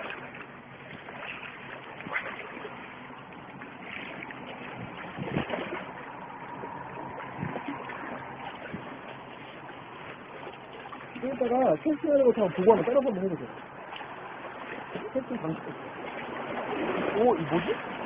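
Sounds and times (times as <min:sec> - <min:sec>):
sea noise: 0:00.0 - 0:18.0
wind: 0:00.0 - 0:18.0.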